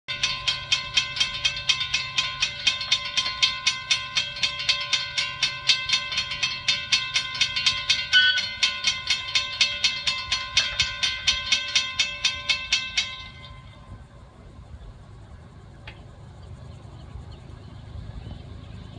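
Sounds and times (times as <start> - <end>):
railroad crossing bell ringing: 0.1 - 15.7.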